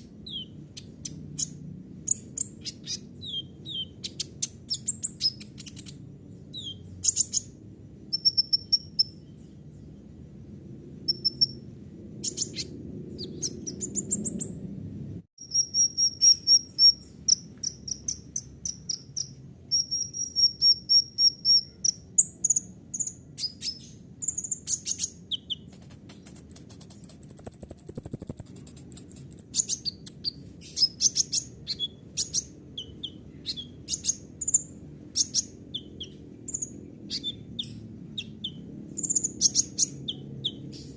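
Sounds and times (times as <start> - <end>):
loud buzzy bird trill: 0.0 - 9.6, 11.0 - 14.6, 15.4 - 25.7, 26.6 - 40.9
sunbird singing: 0.0 - 14.6, 15.4 - 40.9.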